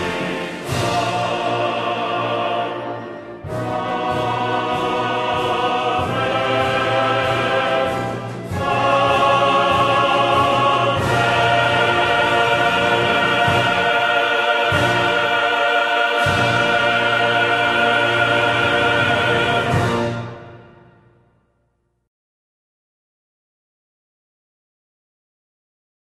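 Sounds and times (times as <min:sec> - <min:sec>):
choir singing held notes: 0:00.0 - 0:20.9
orchestra: 0:00.0 - 0:21.9.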